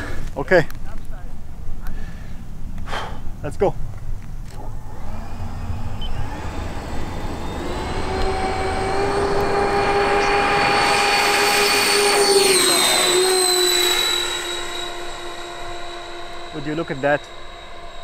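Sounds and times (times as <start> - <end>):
ducted-fan engines whining: 0.0 - 18.0.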